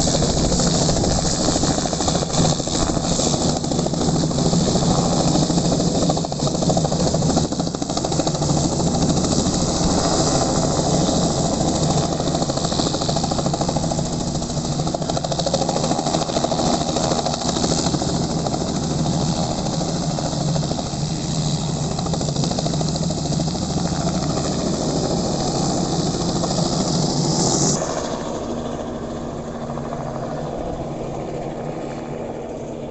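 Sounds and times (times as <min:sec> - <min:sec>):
helicopter running: 0:00.0 - 0:32.9.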